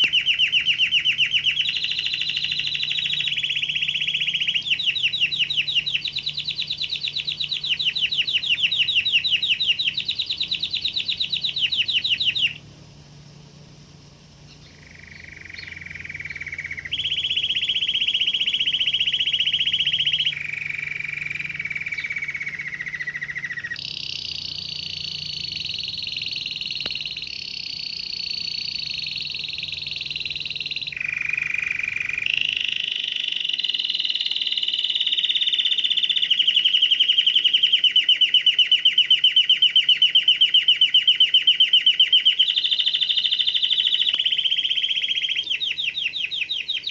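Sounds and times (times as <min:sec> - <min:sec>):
canary singing: 0:00.0 - 0:13.8, 0:14.4 - 0:46.9.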